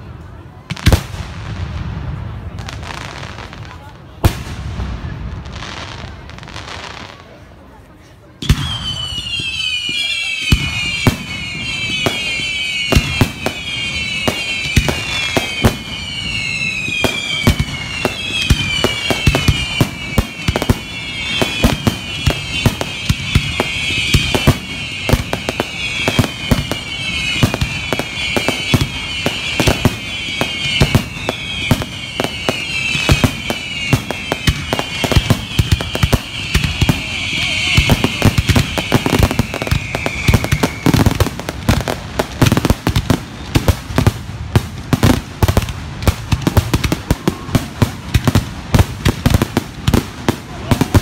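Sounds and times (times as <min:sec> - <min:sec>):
fireworks bangs and crackling: 0:00.0 - 0:51.0
falling fireworks whistles: 0:08.4 - 0:51.0.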